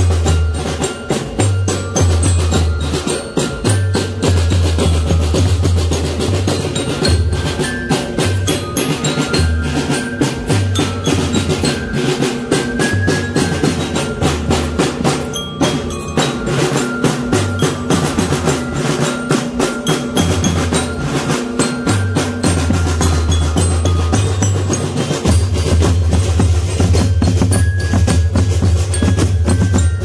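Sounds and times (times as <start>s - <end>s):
mallet bells melody: 0.0s - 30.0s
snare and bass drums: 0.0s - 30.0s.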